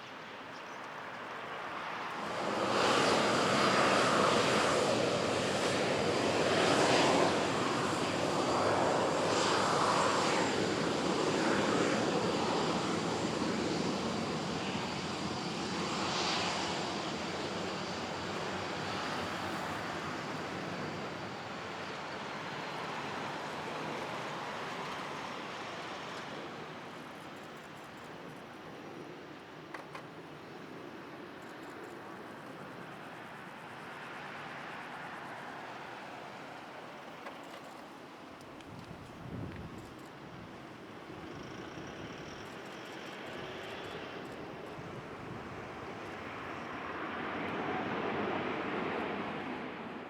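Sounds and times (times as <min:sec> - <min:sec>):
jet airliner passing low: 0:00.0 - 0:50.0.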